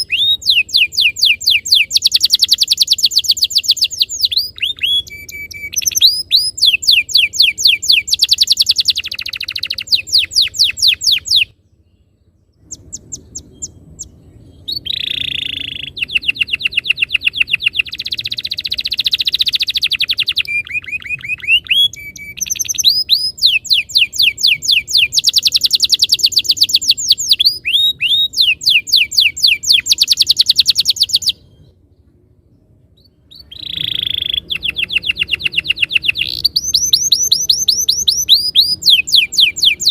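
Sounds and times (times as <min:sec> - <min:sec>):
canary singing trills: 0:00.0 - 0:32.0, 0:33.0 - 0:39.9.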